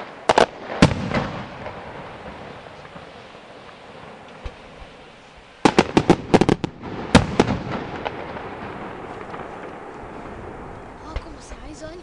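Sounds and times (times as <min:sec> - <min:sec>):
echoing rumble: 0:00.0 - 0:12.0
fireworks bangs: 0:00.0 - 0:12.0.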